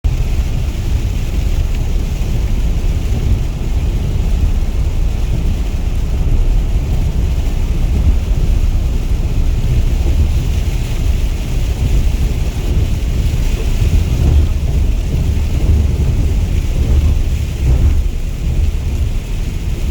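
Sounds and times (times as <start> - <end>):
continuous low rumble: 0.0 - 19.9
rain falling: 0.0 - 19.9.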